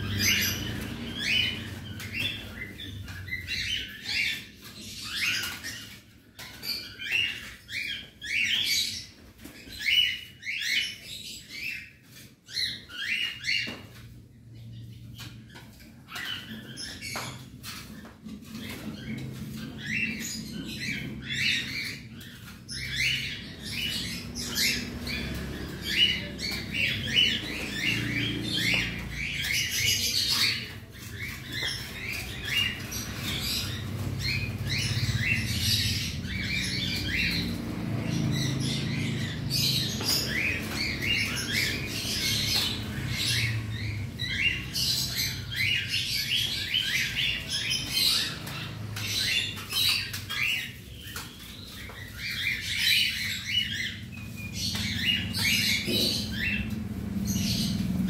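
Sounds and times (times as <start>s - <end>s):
cockatiels chirping and calling: 0.0s - 58.0s.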